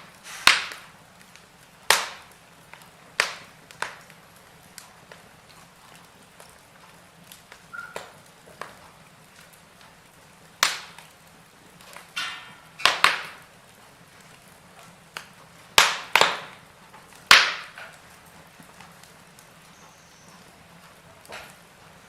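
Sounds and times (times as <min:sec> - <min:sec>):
fire hissing and crackling: 0:00.0 - 0:22.0
sharp pops of burning wood: 0:00.0 - 0:22.0.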